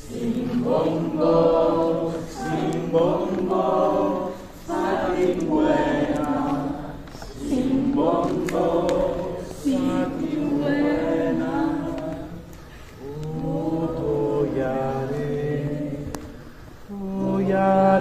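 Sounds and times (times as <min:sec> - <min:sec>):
group chanting in unison: 0:00.0 - 0:18.0.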